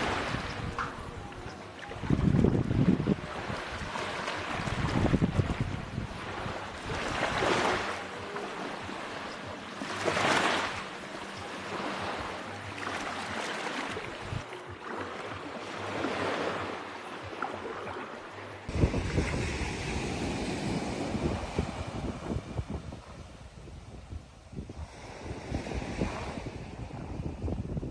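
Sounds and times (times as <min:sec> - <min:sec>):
ocean waves breaking on beach: 0:00.0 - 0:27.9.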